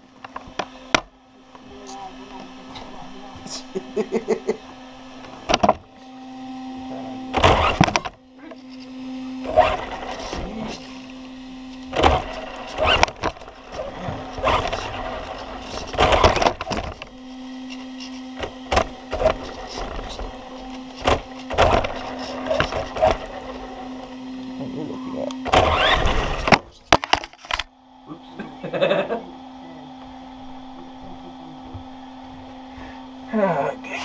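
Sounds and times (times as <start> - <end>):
steady low hum: 0.0 - 34.0
rc car electric motor whirring: 0.2 - 27.7.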